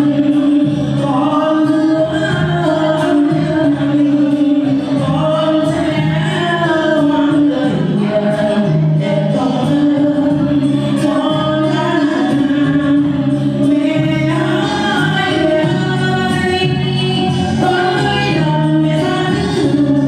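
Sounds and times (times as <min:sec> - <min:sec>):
group of voices singing: 0:00.0 - 0:20.0
instrumental accompaniment: 0:00.0 - 0:20.0.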